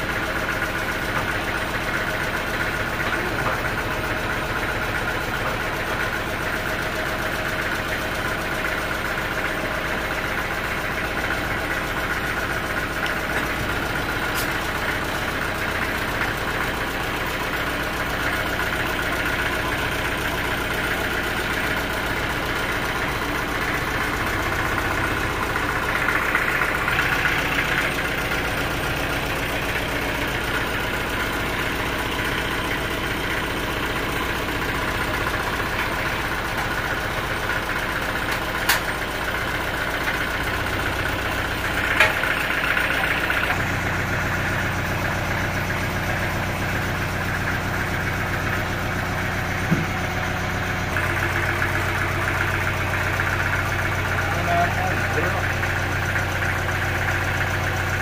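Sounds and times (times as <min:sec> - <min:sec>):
stationary engine idling: 0:00.0 - 0:58.0.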